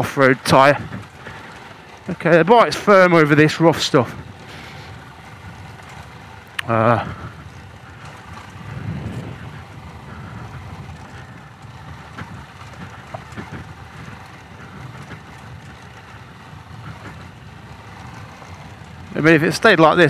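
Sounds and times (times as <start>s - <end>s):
motorcycle engine rumbling: 0.0s - 20.0s
wind noise on microphone: 0.0s - 20.0s.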